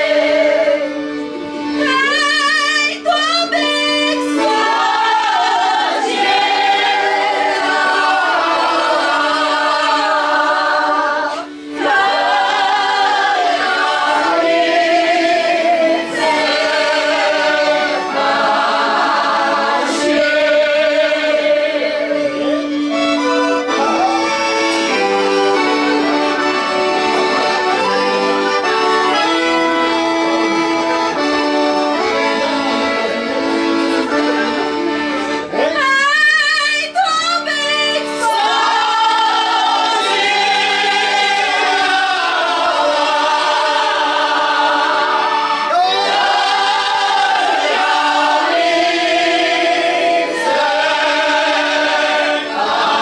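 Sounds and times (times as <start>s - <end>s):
voices singing: 0.0s - 30.3s, 31.0s - 53.0s
accordion playing folk music: 0.0s - 53.0s.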